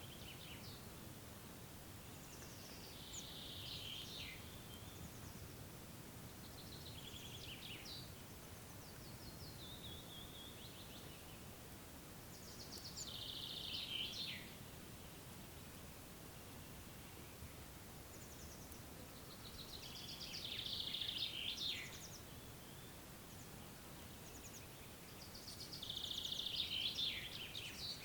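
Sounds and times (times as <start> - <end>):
open air background noise: 0.0 - 28.0
songbird singing: 0.0 - 28.0.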